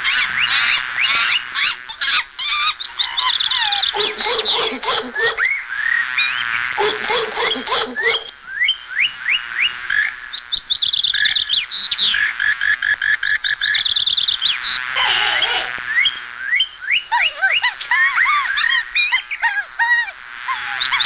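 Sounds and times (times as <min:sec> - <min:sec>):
birds chirping and trilling: 0:00.0 - 0:12.2, 0:13.4 - 0:21.0.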